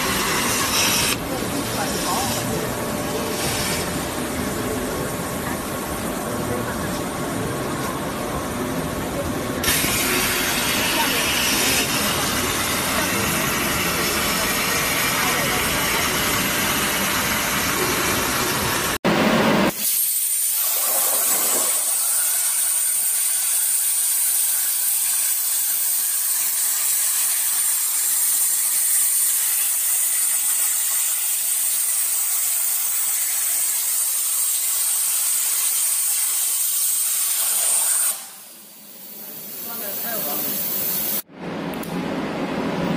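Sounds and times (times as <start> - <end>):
plasma torch hissing: 0.0 - 4.1, 9.6 - 19.0, 19.6 - 41.2.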